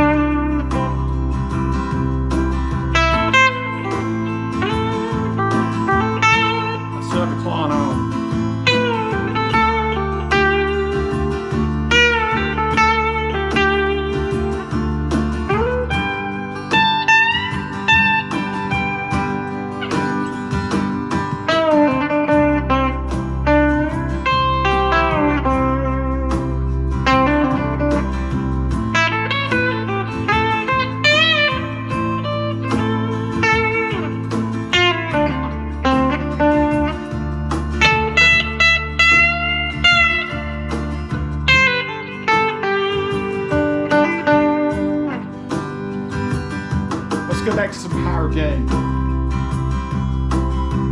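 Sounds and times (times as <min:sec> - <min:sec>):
bass: 0:00.0 - 0:50.9
drums: 0:00.0 - 0:50.9
overdriven electric guitar lead: 0:00.0 - 0:50.9.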